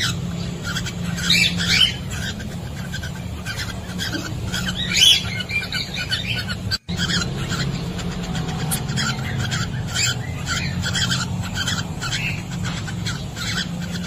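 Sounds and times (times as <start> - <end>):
cockatiels chirping: 0.0 - 14.0.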